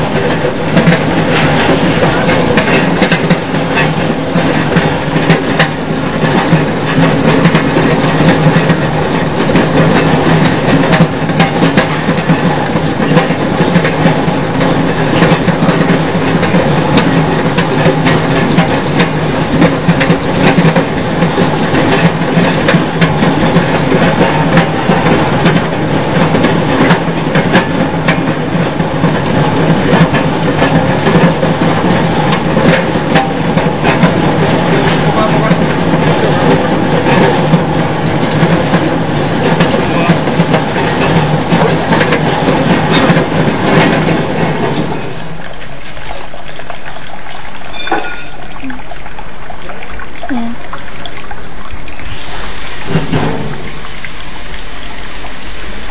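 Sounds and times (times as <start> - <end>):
water running into drum: 0.0 - 55.9.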